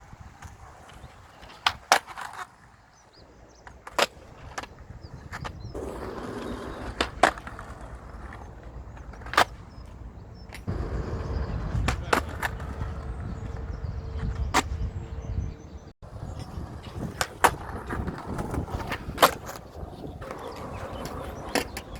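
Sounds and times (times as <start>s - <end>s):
wind buffeting microphone: 0.0s - 1.9s, 4.1s - 21.9s.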